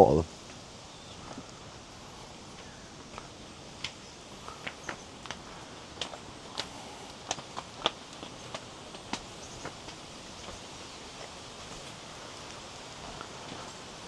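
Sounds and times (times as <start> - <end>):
background hiss: 0.0 - 14.0
footsteps on a path: 0.3 - 14.0.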